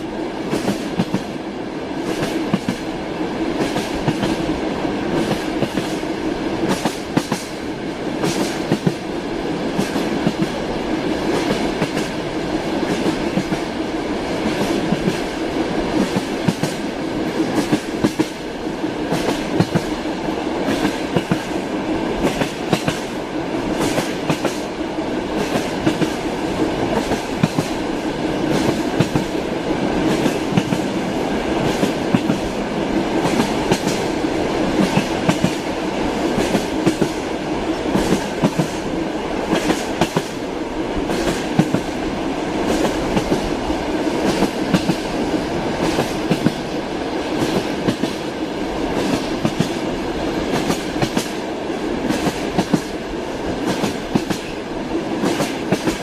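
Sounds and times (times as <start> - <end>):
train wheels clacking: 0.0 - 1.4, 2.0 - 2.9, 3.5 - 4.5, 5.1 - 9.1, 9.7 - 12.2, 12.8 - 13.8, 14.4 - 24.7, 25.3 - 40.4, 41.0 - 42.0, 42.6 - 56.0
train rolling rumble: 0.0 - 56.0.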